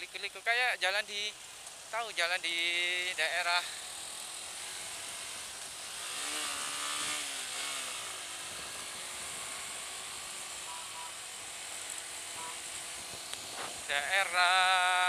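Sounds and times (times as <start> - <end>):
wind and road noise: 0.8 - 15.0
motorcycle engine running: 2.5 - 15.0.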